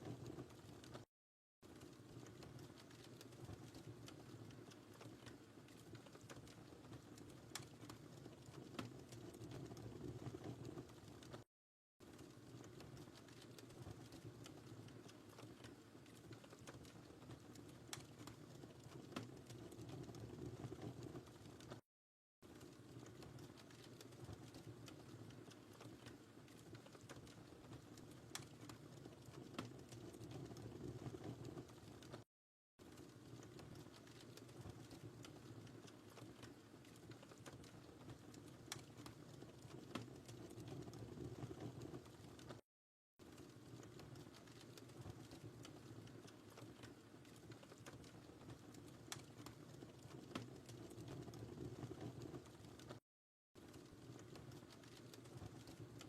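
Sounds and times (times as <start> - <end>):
flames low rumble: 0.0 - 1.0, 1.7 - 11.4, 12.1 - 21.8, 22.5 - 32.2, 32.9 - 42.6, 43.3 - 53.0
wood fire crackling: 0.0 - 21.8, 22.4 - 42.6, 43.2 - 53.0, 53.6 - 56.0.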